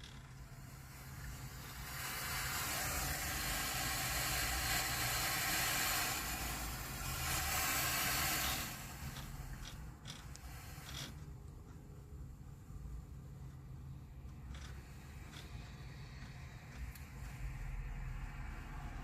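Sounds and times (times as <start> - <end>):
constant low hum: 0.0 - 19.0
steady hiss: 0.0 - 19.0.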